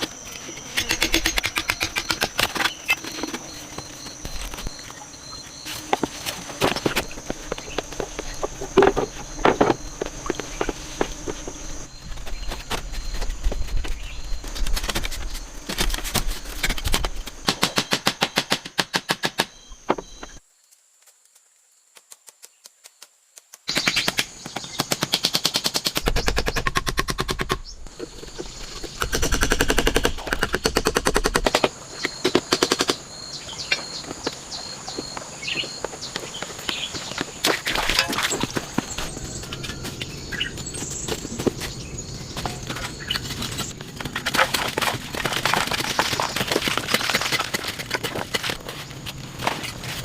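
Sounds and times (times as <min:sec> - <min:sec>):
high insect drone: 0:00.0 - 0:22.2, 0:23.7 - 0:50.0.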